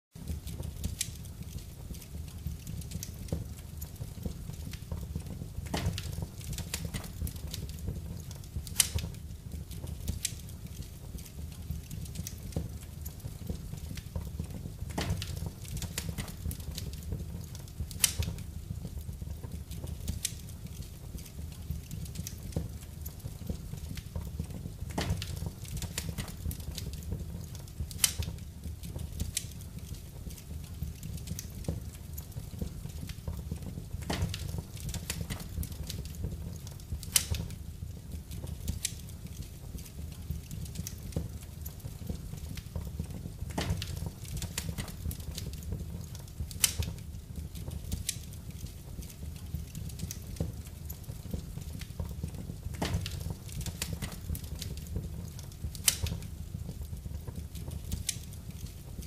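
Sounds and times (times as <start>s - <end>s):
wood fire crackling and popping: 0.1s - 59.0s
low fire rumble: 0.2s - 59.0s.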